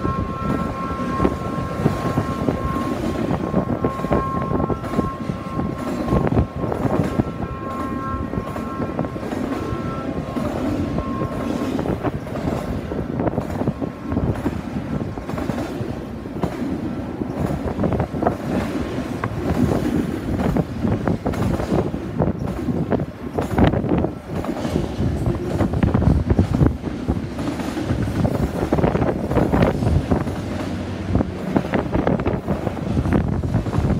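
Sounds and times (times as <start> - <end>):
train wheels rumbling on rail: 0.0 - 33.9.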